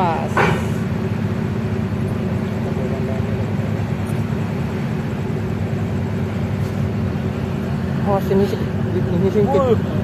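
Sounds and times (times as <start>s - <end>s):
faint steady hum: 0.0s - 10.0s
ship diesel engines rumbling: 0.0s - 10.0s.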